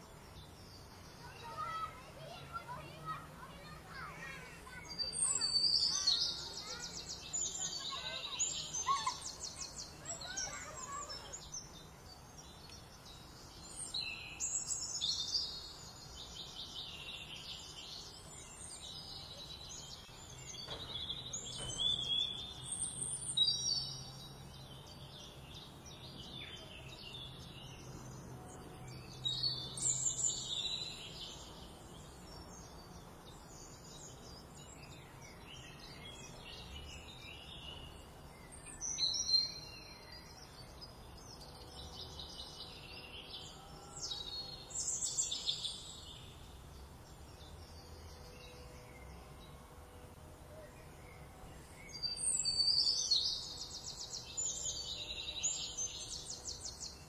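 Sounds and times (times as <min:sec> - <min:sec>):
faint outdoor background: 0:00.0 - 0:57.0
songbirds chirping and trilling: 0:00.0 - 0:57.0.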